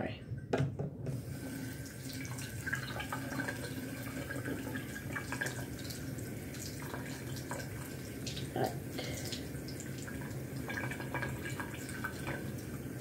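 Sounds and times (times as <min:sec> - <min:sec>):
faucet running over hands: 0:01.2 - 0:13.0.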